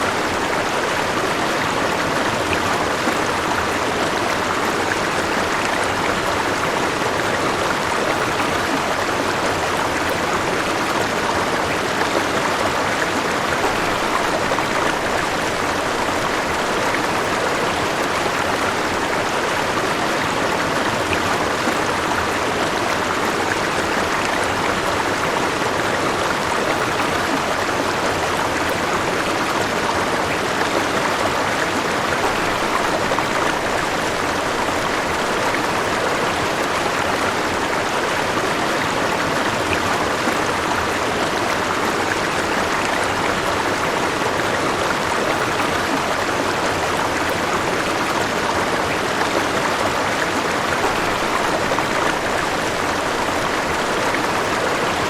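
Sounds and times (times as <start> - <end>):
river rushing water: 0.0 - 55.0.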